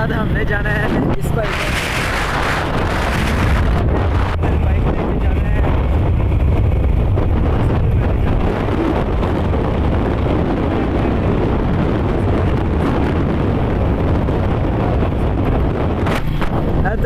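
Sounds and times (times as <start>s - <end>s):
motorcycle engine running: 0.0s - 17.0s
wind rushing on microphone: 0.0s - 17.0s.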